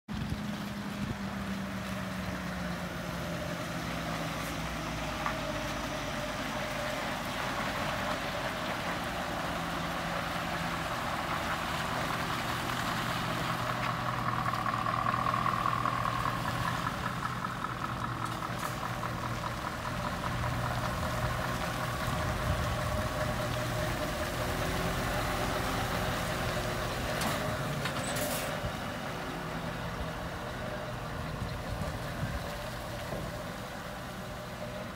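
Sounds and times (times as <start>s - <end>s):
truck diesel engine running: 0.1s - 34.9s.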